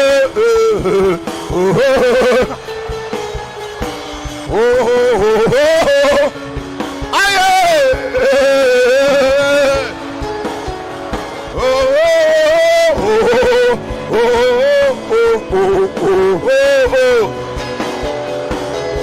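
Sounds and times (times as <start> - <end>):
band accompaniment: 0.0 - 19.0
wordless lead melody: 0.0 - 19.0.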